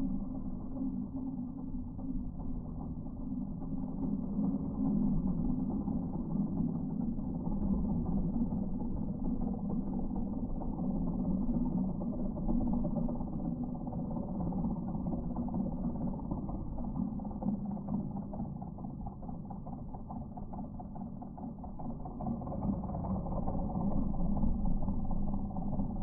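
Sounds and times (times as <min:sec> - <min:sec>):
stump grinder mechanical drone: 0:00.0 - 0:26.0.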